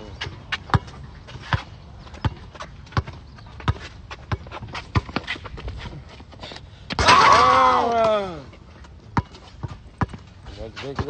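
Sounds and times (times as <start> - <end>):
basketball bouncing on asphalt: 0.0 - 6.3, 7.9 - 11.0.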